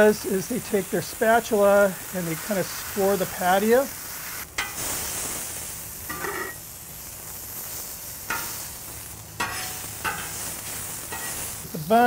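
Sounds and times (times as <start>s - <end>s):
meat patties sizzling on griddle: 0.0s - 12.0s.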